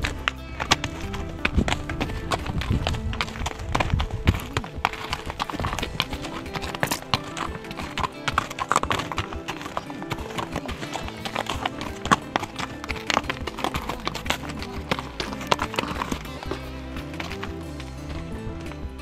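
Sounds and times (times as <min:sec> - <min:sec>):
horse hooves on gravel: 0:00.0 - 0:19.0
music playing: 0:00.0 - 0:19.0.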